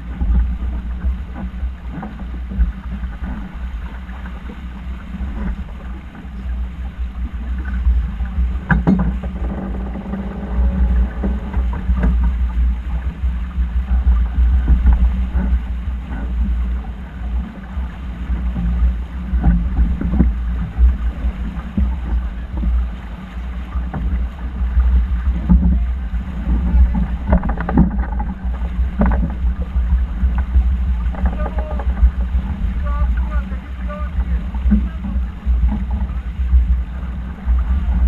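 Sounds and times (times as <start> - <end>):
rush of water: 0.0 - 38.0
wind buffeting microphone: 0.0 - 38.0.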